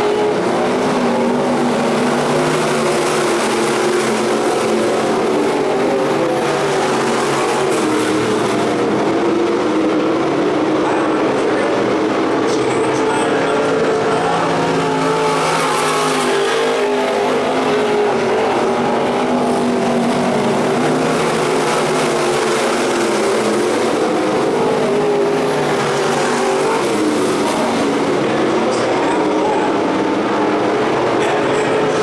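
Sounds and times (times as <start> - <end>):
race car engines: 0.0 - 32.0.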